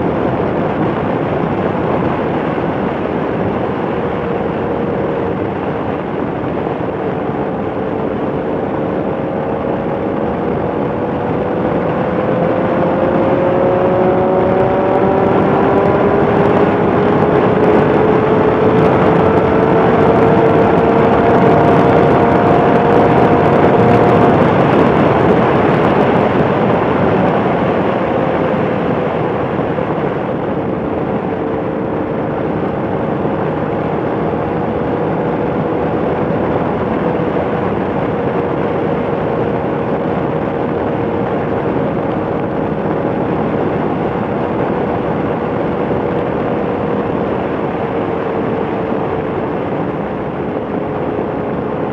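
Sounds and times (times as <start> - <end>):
motorcycle engine: 0.0 - 51.9
wind and road noise: 0.0 - 51.9.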